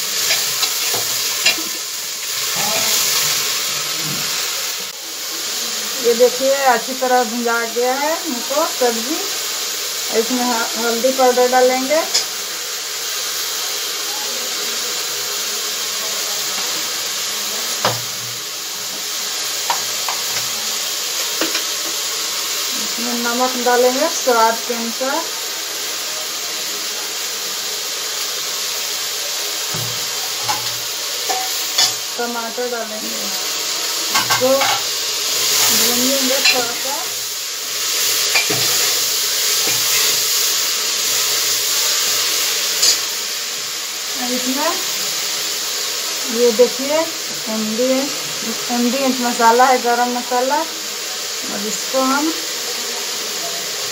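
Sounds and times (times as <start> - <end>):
vegetables sizzling in hot oil: 0.0 - 53.9.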